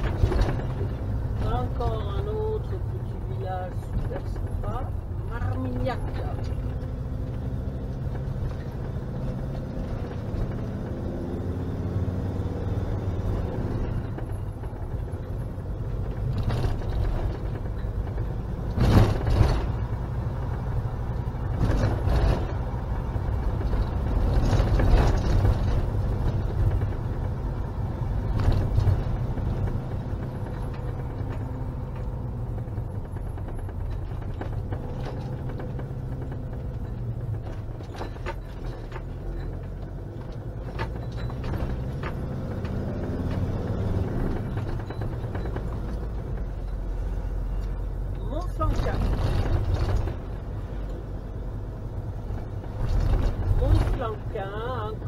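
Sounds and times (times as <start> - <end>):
knocks and rattles: 0.0 - 55.0
van engine and road noise: 0.0 - 55.0.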